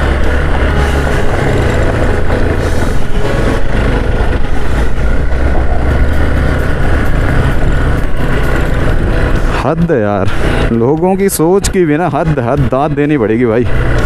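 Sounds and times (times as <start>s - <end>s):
motorcycle engine low rumble: 0.0s - 14.0s.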